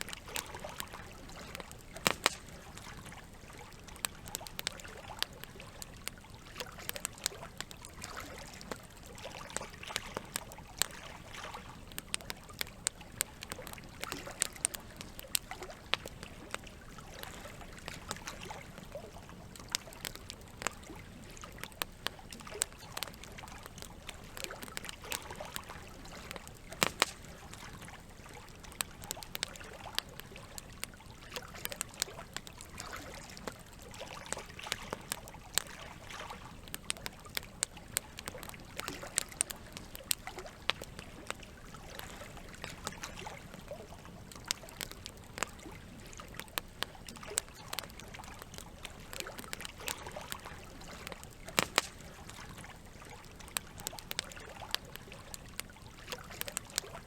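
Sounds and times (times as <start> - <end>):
campfire crackling and popping: 0.0 - 57.0
running water trickling: 0.0 - 57.0.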